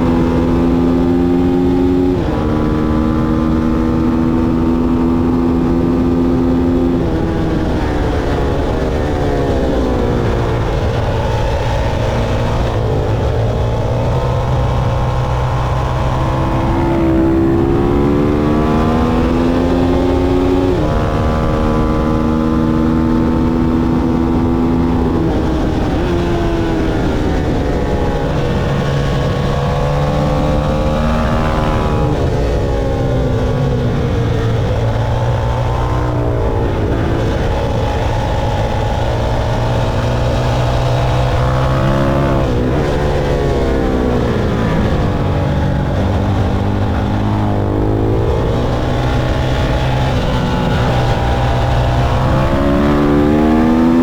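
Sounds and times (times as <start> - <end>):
motorcycle engine revving: 0.0 - 54.0
steady rushing noise: 0.0 - 54.0.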